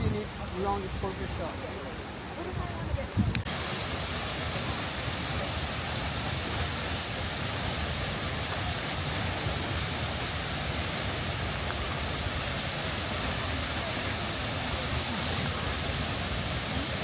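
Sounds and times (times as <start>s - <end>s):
waterfall rushing: 0.3s - 17.0s.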